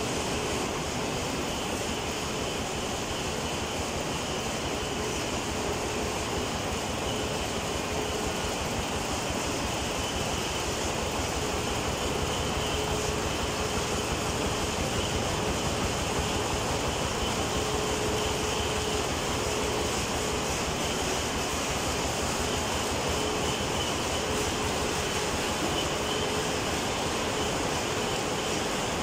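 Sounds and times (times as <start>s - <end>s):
conveyor machinery running: 0.0s - 29.0s.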